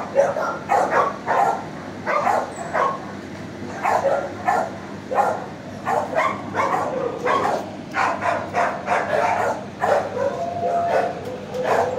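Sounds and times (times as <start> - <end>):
dogs barking: 0.0 - 11.9.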